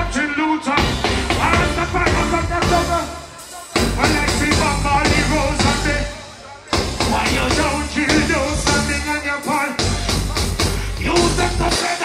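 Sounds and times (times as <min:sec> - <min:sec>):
live reggae band: 0:00.0 - 0:12.0
person singing: 0:00.0 - 0:12.0.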